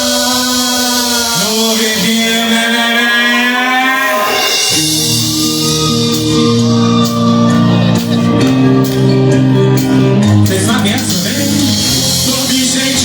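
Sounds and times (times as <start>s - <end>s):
band playing chords: 0.0s - 13.0s
bass line: 0.0s - 13.0s.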